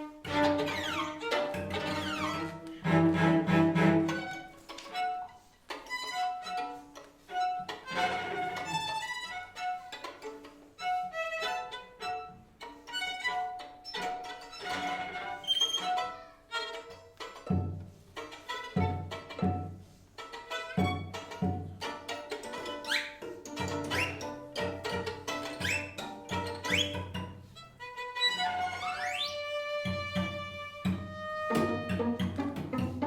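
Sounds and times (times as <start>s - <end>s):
string quartet playing: 0.0s - 33.0s.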